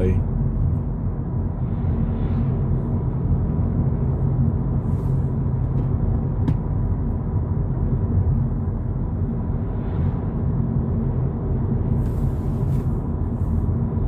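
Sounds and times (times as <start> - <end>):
car driving heard inside cabin: 0.0 - 14.0.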